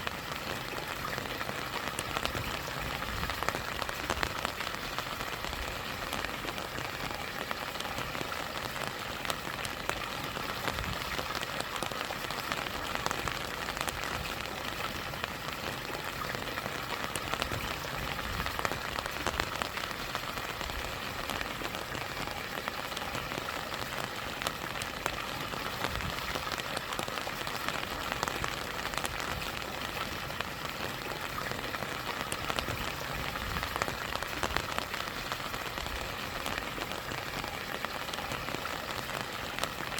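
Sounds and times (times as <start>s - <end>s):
raindrops ticking: 0.0s - 39.9s
small waterfall: 0.0s - 39.9s.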